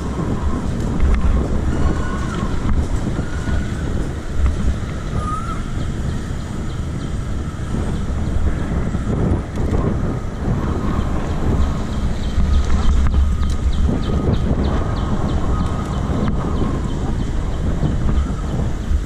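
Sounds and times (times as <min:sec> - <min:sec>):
street and vehicle noise: 0:00.0 - 0:19.0
wind rumbling on microphone: 0:00.0 - 0:19.0.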